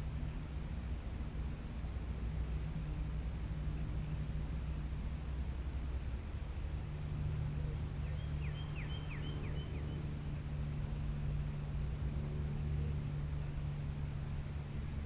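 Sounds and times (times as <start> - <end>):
songbird singing: 0.0 - 15.0
steady low hum: 0.0 - 15.0.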